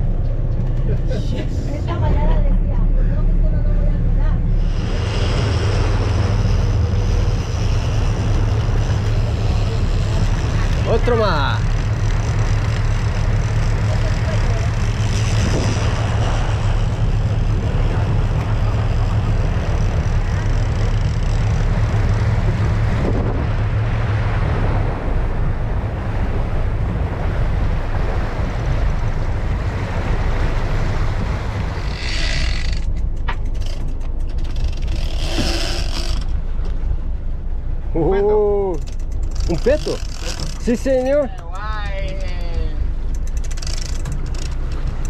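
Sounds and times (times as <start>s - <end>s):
boat engine running: 0.0s - 45.0s
wind and water noise: 0.0s - 45.0s.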